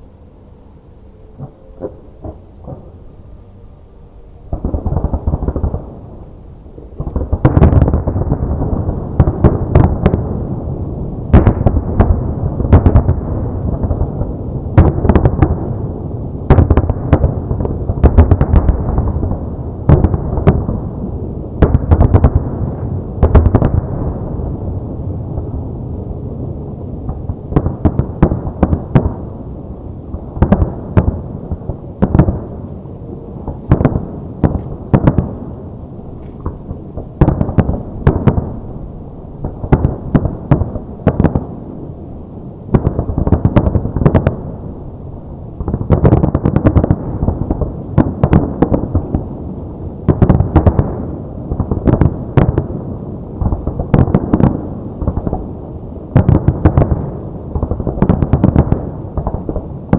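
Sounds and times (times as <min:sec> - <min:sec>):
rolling rumble of echoes: 0:00.0 - 0:59.9
fireworks bursting: 0:04.5 - 0:59.9.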